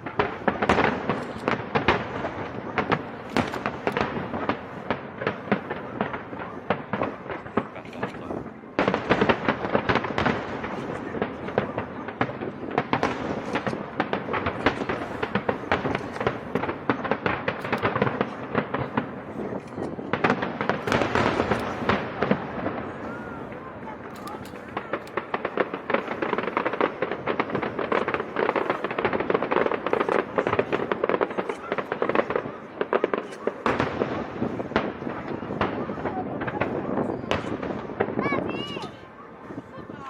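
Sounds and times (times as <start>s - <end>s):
fireworks crackling and popping: 0.0s - 40.0s.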